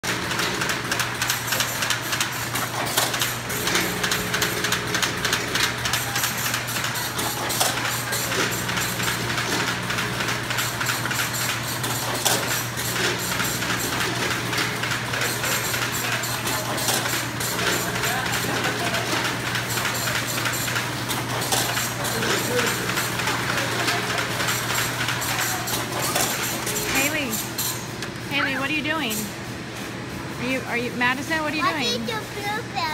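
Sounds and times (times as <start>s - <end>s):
conveyor clicks and rattles: 0.0s - 32.6s
machine hum: 0.0s - 32.9s.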